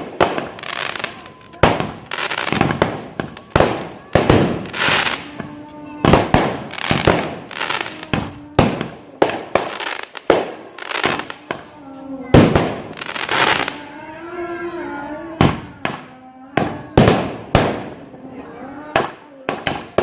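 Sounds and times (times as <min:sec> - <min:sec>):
fireworks bangs with crackling hiss: 0:00.0 - 0:13.9, 0:15.2 - 0:18.2, 0:18.8 - 0:20.0.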